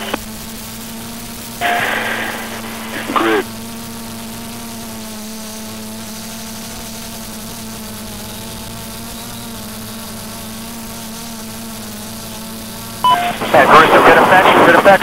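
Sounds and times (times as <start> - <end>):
buzzing mechanical drone: 0.0 - 15.0.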